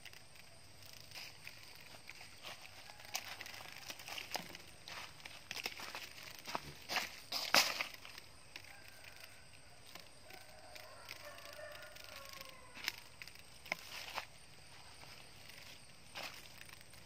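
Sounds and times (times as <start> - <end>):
footsteps crunching on dry leaves: 1.1 - 9.5, 10.5 - 17.0.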